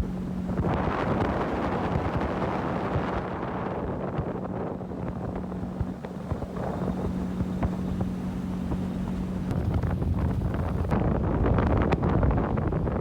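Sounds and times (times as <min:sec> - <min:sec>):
boat motor running: 0:00.0 - 0:13.0
wind buffeting microphone: 0:00.0 - 0:13.0.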